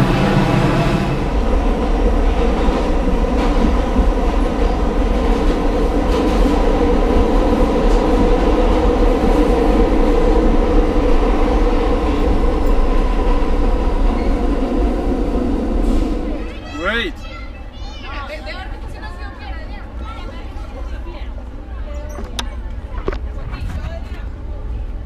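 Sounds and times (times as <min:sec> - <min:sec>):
subway train rumble: 0:00.0 - 0:25.0.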